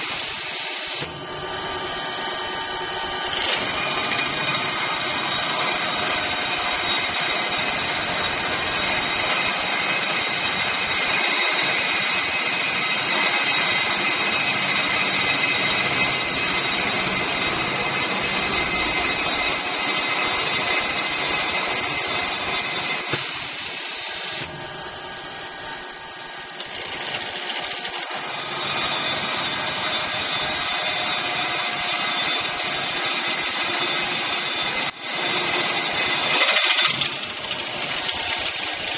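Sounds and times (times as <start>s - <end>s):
cnc machine running: 0.0s - 38.9s.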